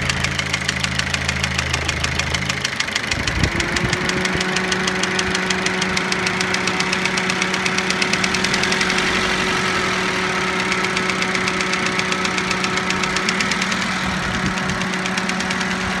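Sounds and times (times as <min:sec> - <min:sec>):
car engine idling: 0:00.0 - 0:16.0
rapid engine knock: 0:00.0 - 0:16.0.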